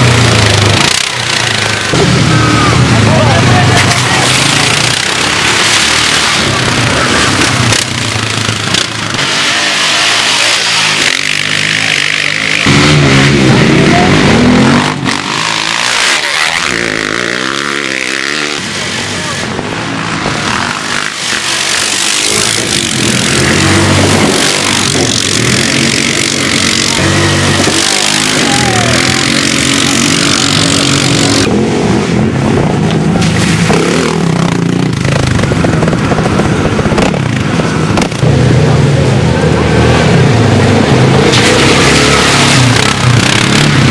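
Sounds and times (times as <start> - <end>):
quad bike engines revving: 0.0 - 43.9.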